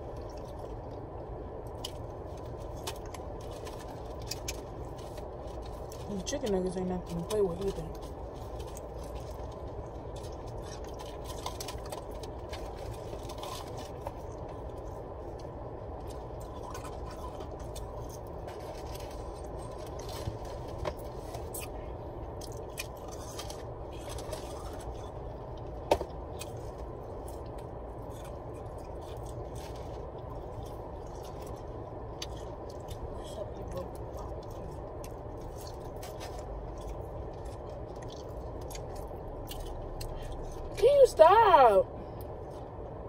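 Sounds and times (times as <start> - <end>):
person chewing food: 0.0 - 6.1, 7.9 - 40.6.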